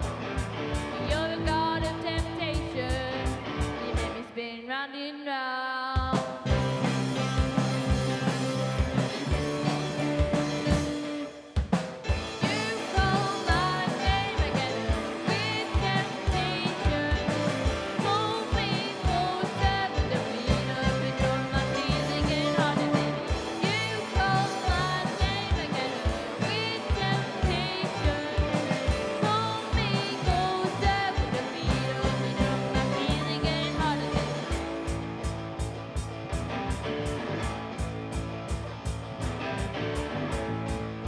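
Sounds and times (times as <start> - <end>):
rock band playing live: 0.0 - 4.4, 6.0 - 41.0.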